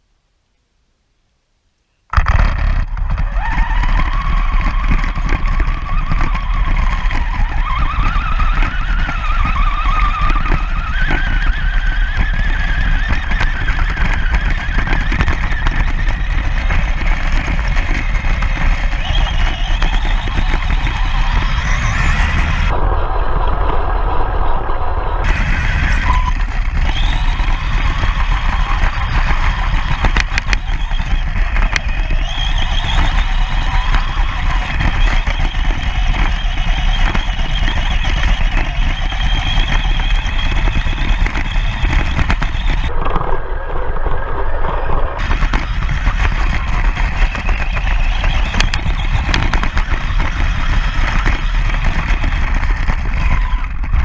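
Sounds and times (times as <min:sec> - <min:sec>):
rough rumbling noise: 0:02.1 - 0:54.0.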